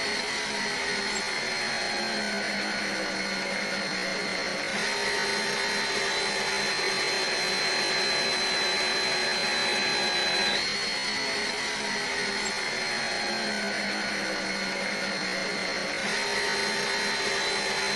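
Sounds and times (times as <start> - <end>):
electric drill whining: 0.0 - 17.9.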